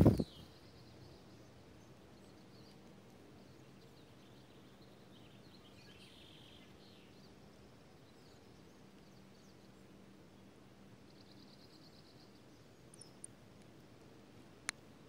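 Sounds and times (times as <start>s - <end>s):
faint bird chirps: 0.0s - 13.4s
faint background hum: 0.0s - 15.0s.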